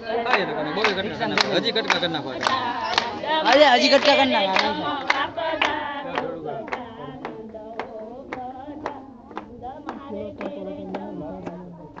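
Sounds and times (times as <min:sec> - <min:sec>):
group singing devotional song: 0:00.0 - 0:12.0
hand clapping in rhythm: 0:00.2 - 0:12.0.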